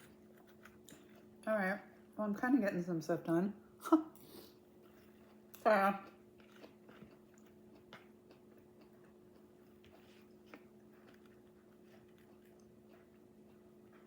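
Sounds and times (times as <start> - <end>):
quiet chewing and mouth sounds: 0.0 - 2.2, 4.1 - 14.0
low steady hum: 0.0 - 14.0.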